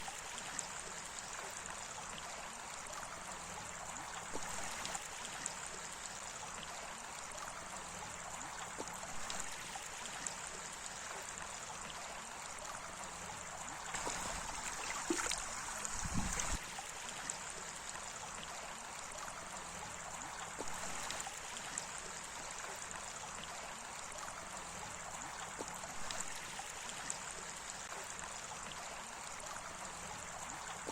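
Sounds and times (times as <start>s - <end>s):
water trickling and gurgling: 0.0s - 30.9s.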